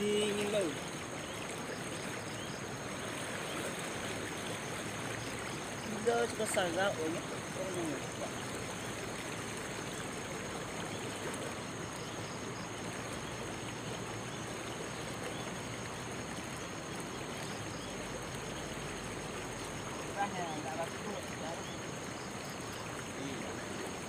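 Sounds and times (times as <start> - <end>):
river current rushing: 0.0 - 24.0.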